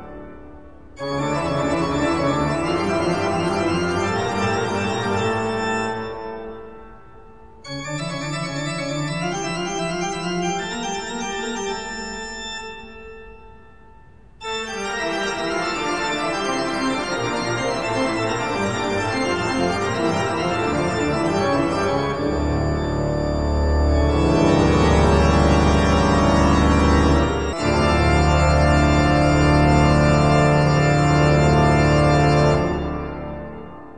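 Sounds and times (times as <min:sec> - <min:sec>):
sustained organ-like keyboard chords: 0:00.0 - 0:33.9.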